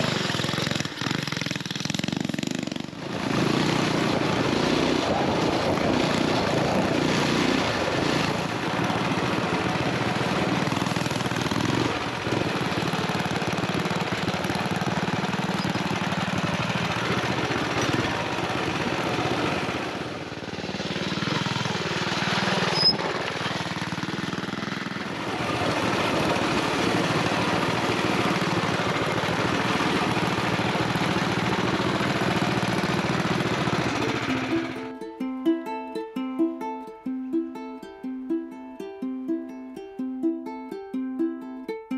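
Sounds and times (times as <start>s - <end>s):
small motorbike engine running: 0.0s - 35.0s.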